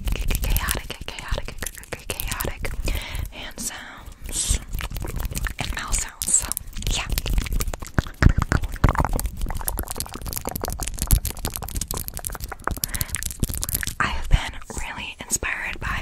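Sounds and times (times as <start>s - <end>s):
hands rubbing a microphone: 0.0s - 15.2s
wet mouth clicks: 0.0s - 15.9s.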